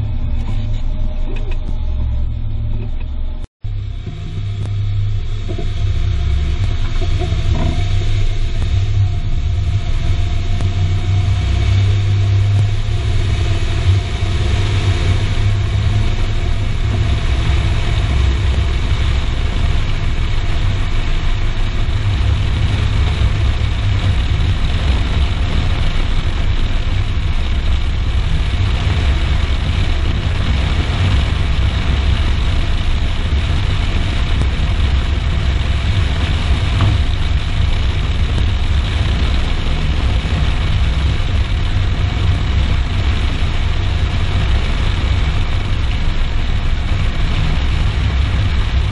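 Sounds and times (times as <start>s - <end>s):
car engine low rumble: 0.0s - 48.9s.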